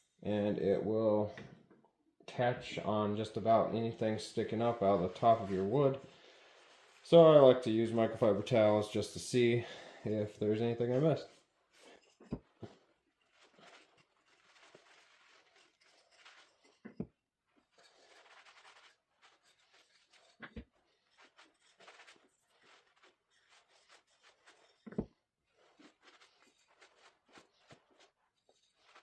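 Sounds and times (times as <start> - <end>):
towel rubbing on wooden coasters: 4.3 - 9.4, 10.8 - 29.0.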